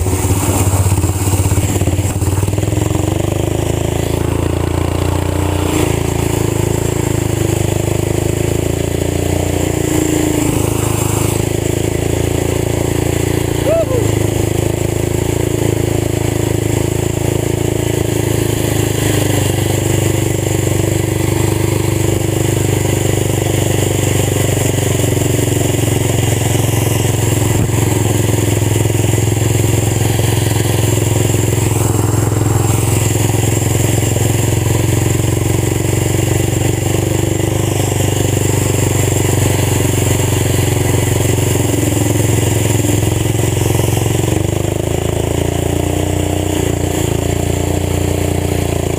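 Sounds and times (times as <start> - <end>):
old tractor engine running: 0.0 - 48.9.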